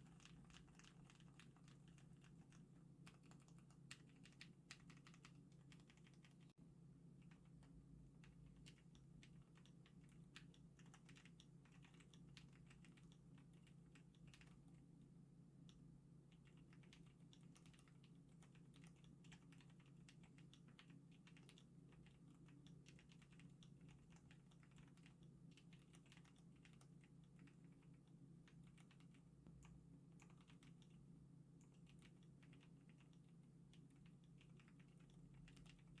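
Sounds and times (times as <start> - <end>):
keyboard typing: 0.0 - 6.5, 7.2 - 14.8, 16.3 - 31.0, 31.6 - 36.0.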